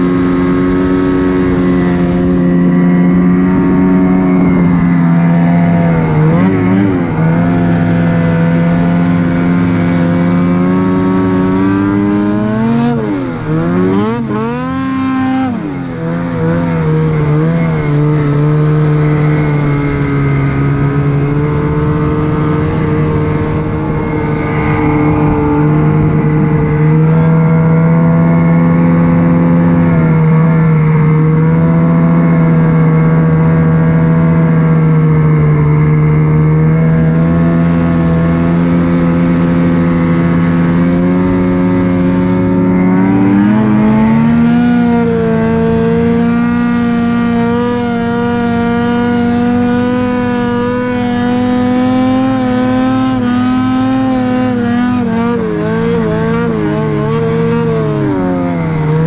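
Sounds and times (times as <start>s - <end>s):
snowmobile engine revving high: 0.0s - 59.0s.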